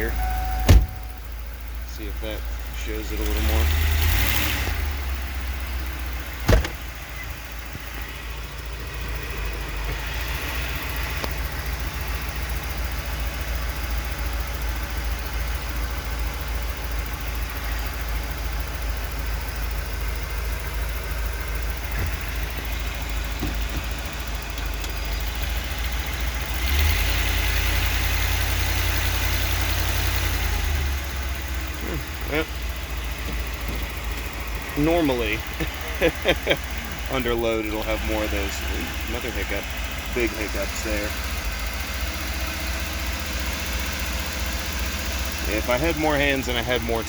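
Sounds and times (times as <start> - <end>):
van engine running with misfire coughs: 0.0 - 47.0.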